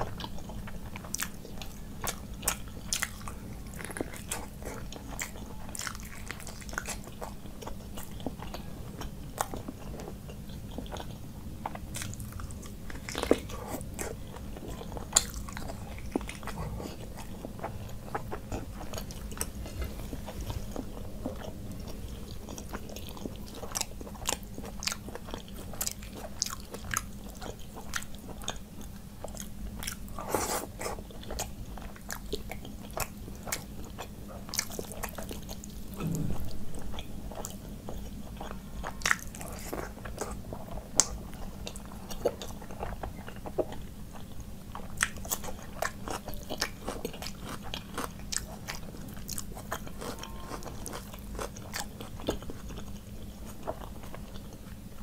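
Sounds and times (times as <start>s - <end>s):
wet chewing: 0.0s - 54.9s
low steady hum: 0.0s - 55.0s.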